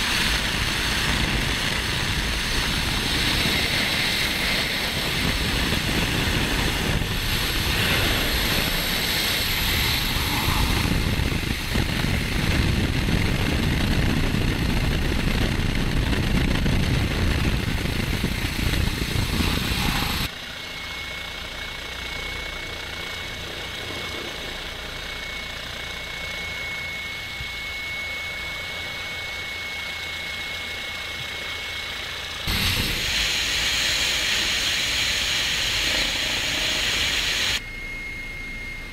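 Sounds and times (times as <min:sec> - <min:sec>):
thin high whine: 0:00.0 - 0:15.1, 0:16.0 - 0:38.9
helicopter rotor and engine noise: 0:00.0 - 0:38.9.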